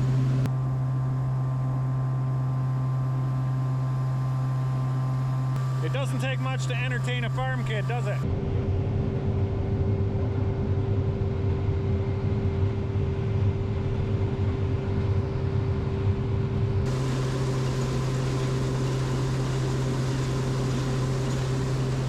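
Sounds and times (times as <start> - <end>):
farm machinery hum: 0.0 - 22.0.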